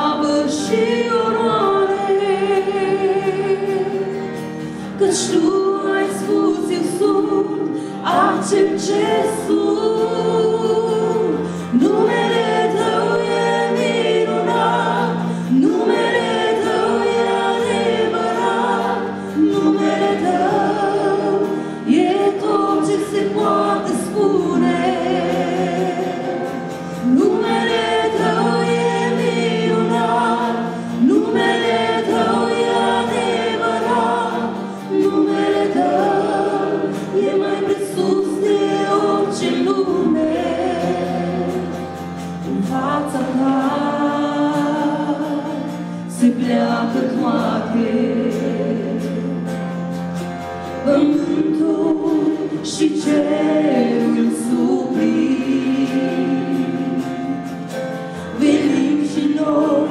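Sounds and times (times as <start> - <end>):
instrumental backing: 0.0 - 59.9
vocal quartet singing in harmony: 0.0 - 59.9.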